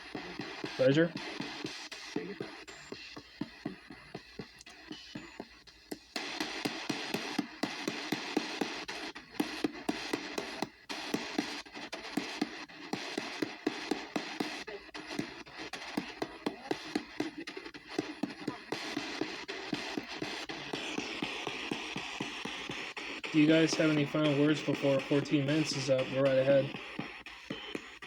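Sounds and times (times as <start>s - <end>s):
chopped broadcast voices: 0.0s - 28.0s
rapid even ticking: 0.0s - 28.0s
static hiss: 0.0s - 28.0s.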